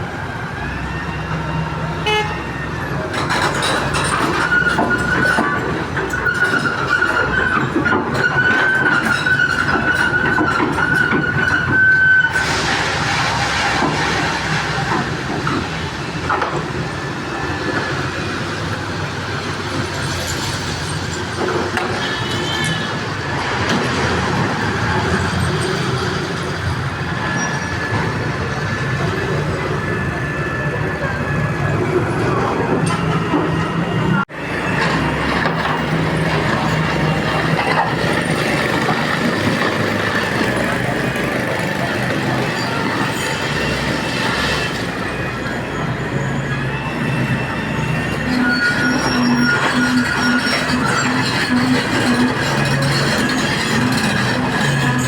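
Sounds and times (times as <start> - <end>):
heavy machinery noise: 0.0 - 55.0
street traffic: 0.0 - 55.0.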